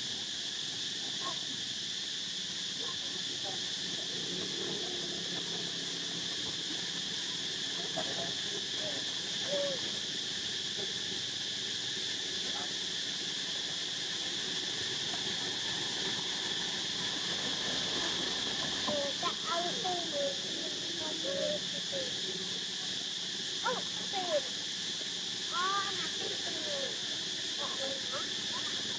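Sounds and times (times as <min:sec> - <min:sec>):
high-pitched insect drone: 0:00.0 - 0:28.9.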